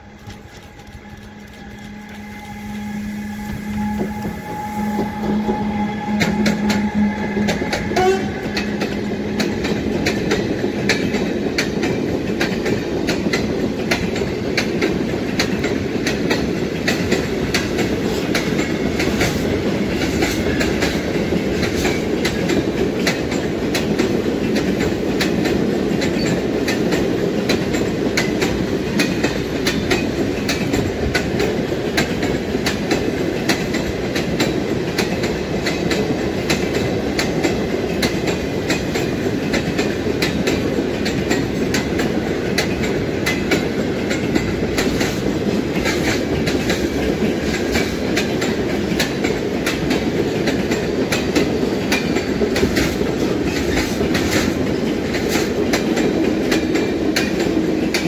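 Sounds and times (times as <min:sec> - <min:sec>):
train rumble: 0:00.0 - 0:58.0
train wheels clattering over rail joints: 0:06.1 - 0:58.0.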